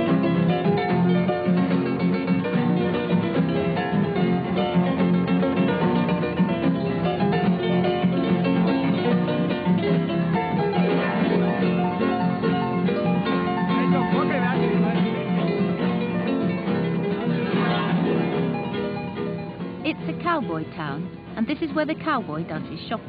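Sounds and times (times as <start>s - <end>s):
acoustic guitars strumming: 0.0s - 23.0s
harp melody: 0.1s - 21.5s.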